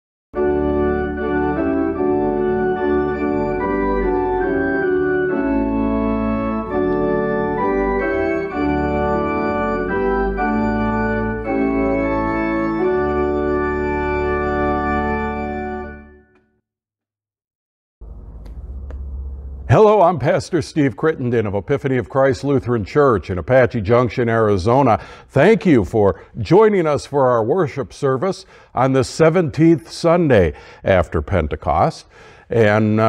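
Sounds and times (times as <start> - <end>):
organ playing slow chords: 0.4 - 16.4, 18.0 - 31.0.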